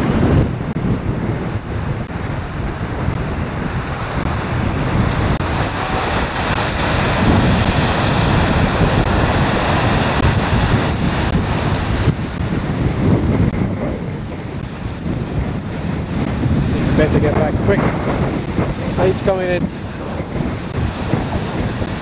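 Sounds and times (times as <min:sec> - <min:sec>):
small waves breaking on shore: 0:00.0 - 0:22.0
wind buffeting microphone: 0:00.0 - 0:22.0.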